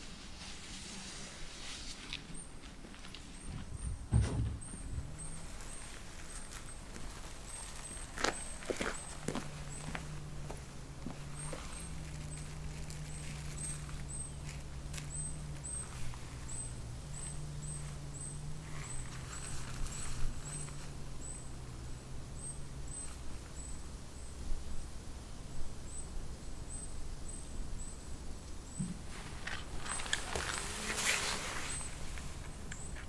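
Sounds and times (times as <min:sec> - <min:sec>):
low wind rumble: 0:03.3 - 0:33.0.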